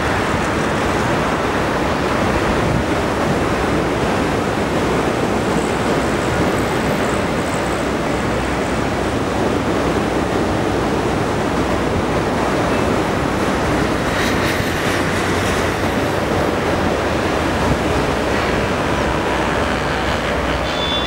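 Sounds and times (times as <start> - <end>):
ocean surf breaking: 0.0 - 21.0.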